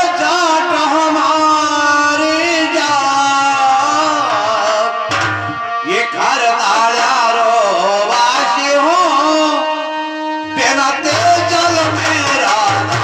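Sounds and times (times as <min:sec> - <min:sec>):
harmonium chords: 0:00.0 - 0:13.0
person singing: 0:00.0 - 0:13.0.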